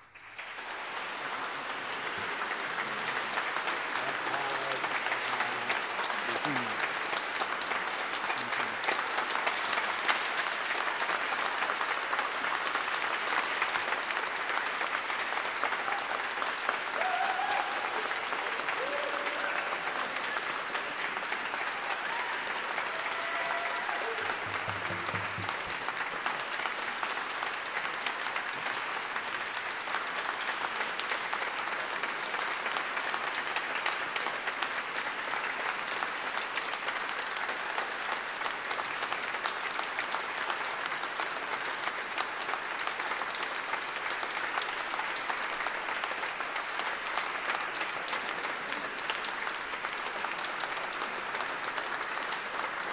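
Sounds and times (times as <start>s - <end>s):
audience applauding: 0.0s - 52.9s.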